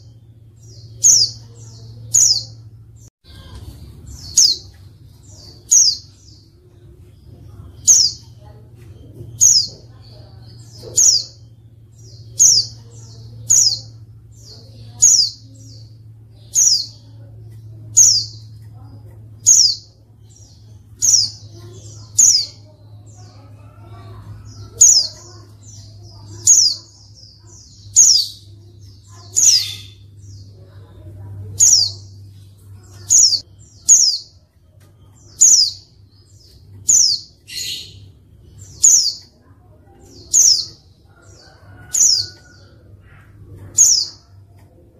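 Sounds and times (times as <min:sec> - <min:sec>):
bird chirping: 0:00.0 - 0:44.8
low steady hum: 0:00.0 - 0:44.9.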